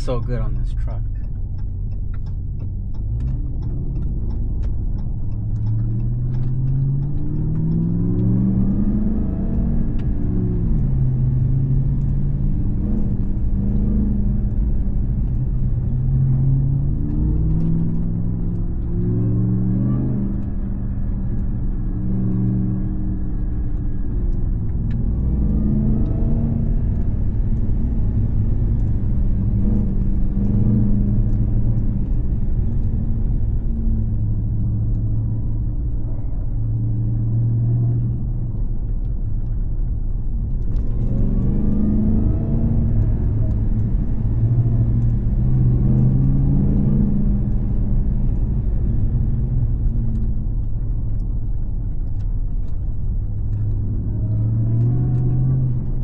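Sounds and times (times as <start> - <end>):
pickup truck engine rumbling: 0.0 - 56.0.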